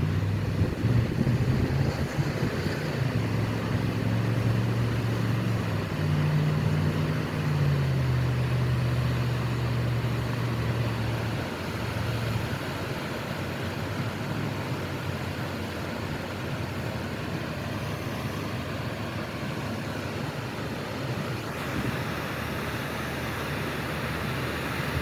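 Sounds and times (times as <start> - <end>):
steady rushing noise: 0.0 - 25.0
vehicle engine humming: 0.0 - 25.0.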